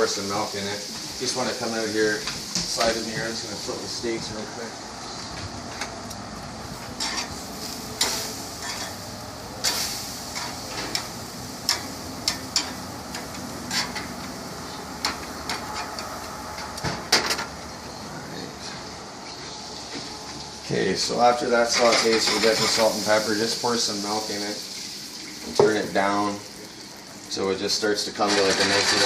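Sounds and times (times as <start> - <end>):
steaks sizzling: 0.0 - 18.0, 19.1 - 29.0.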